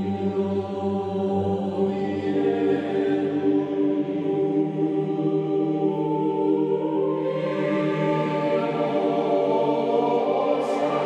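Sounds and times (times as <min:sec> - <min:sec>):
choir-like chanting on held notes: 0:00.0 - 0:11.0.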